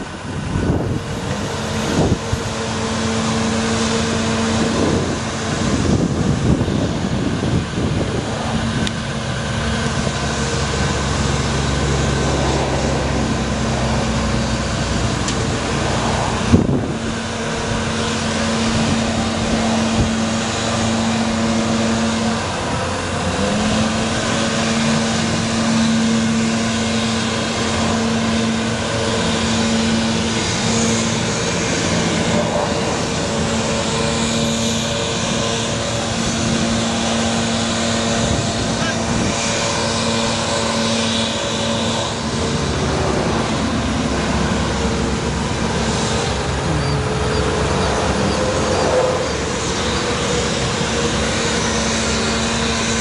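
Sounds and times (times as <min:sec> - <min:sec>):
hydraulic whine: 0:00.0 - 0:53.0
truck engine running: 0:00.0 - 0:53.0.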